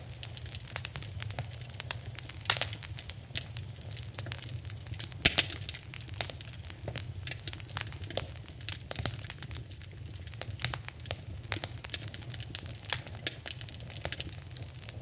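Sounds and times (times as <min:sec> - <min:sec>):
low rumble of flames: 0:00.0 - 0:15.0
wood fire pops and snaps: 0:00.0 - 0:15.0.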